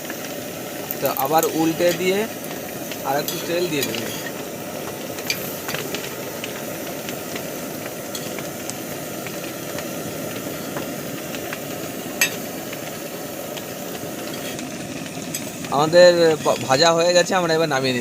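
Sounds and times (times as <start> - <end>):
flatbread sizzling on a griddle: 0.0 - 18.0.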